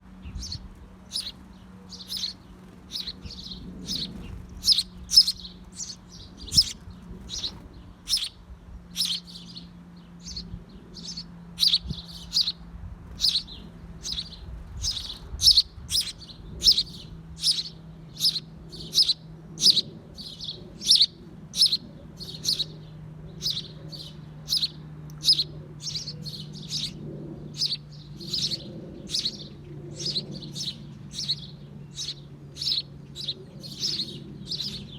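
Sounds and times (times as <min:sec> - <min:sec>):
faint low hum: 0:00.0 - 0:34.9
small bird chirping: 0:00.1 - 0:34.9.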